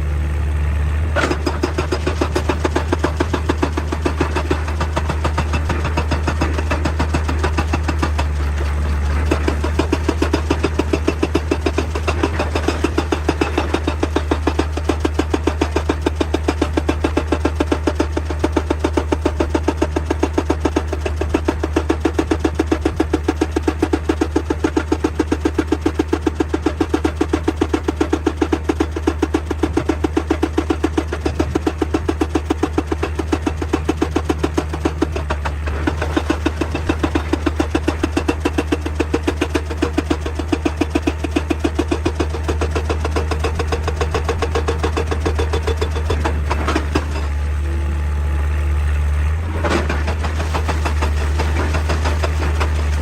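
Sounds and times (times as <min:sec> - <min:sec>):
excavator diesel engine drone: 0:00.0 - 0:53.0
hydraulic breaker hammering rock: 0:01.1 - 0:47.9, 0:49.3 - 0:53.0.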